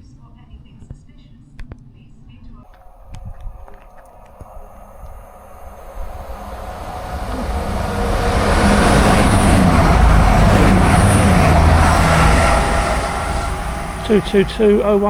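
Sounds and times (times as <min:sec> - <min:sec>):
diesel train passing: 0:02.7 - 0:15.0.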